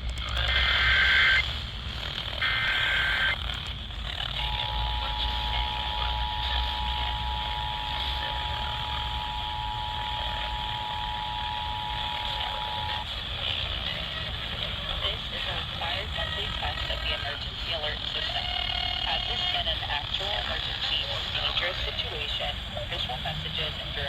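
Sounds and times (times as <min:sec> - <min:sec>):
receiver hiss and hum: 0:00.0 - 0:24.0.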